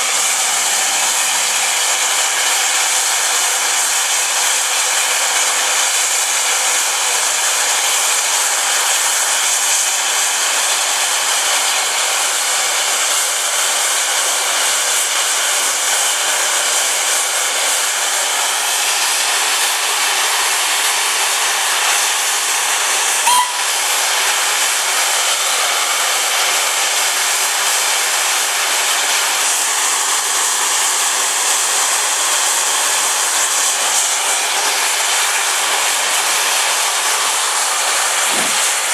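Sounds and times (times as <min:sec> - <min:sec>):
steam hissing from locomotive: 0:00.0 - 0:38.9.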